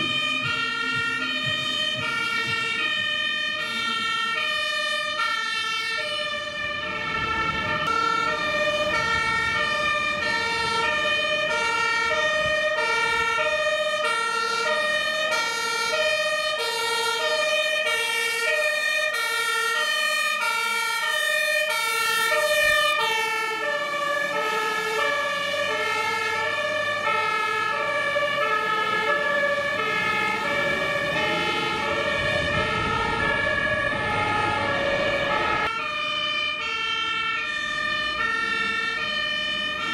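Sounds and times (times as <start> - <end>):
truck engine rumble: 0.0 - 39.9
two-tone fire engine siren: 0.0 - 39.9.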